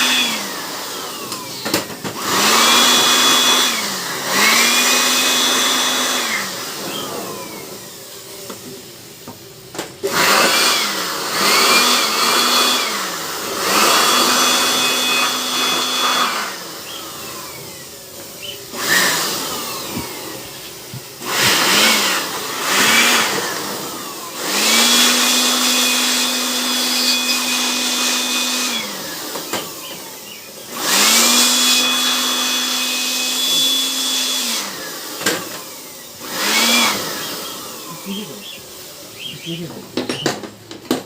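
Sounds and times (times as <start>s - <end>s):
small electric motor whining: 0.0s - 9.4s, 10.0s - 40.4s.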